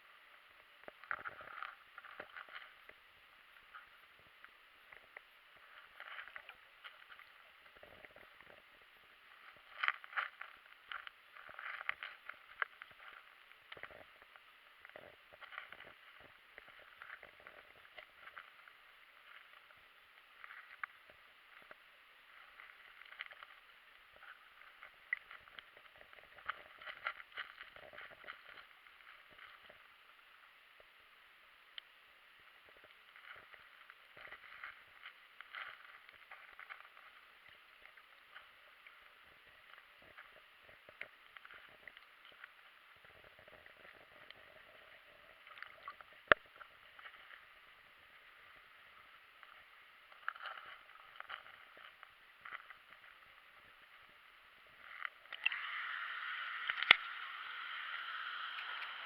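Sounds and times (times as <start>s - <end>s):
faint water splashing and gurgling: 0.0s - 59.0s.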